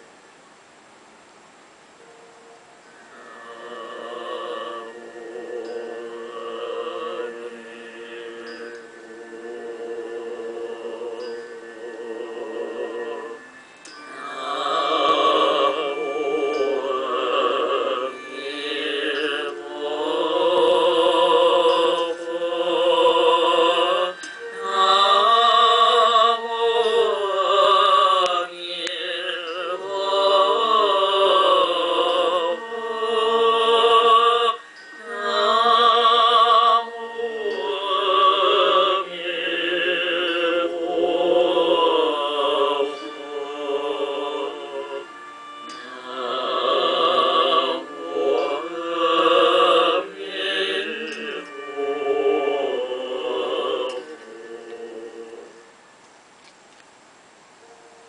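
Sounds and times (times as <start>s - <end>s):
person singing with vibrato: 2.0s - 56.0s.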